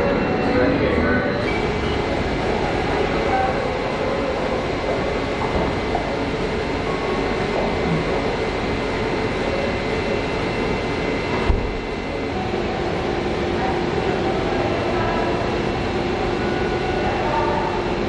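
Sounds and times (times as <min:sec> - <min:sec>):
street activity: 0:00.0 - 0:18.0.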